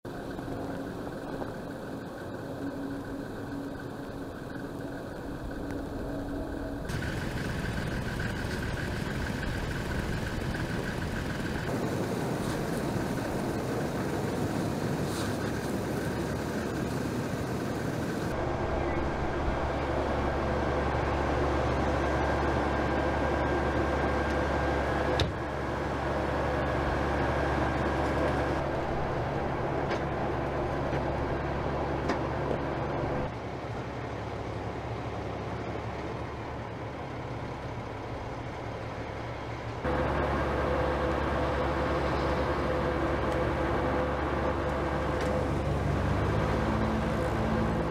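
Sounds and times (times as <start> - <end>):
traffic rush: 0.0 - 47.9
vehicle engine hum: 0.0 - 47.9.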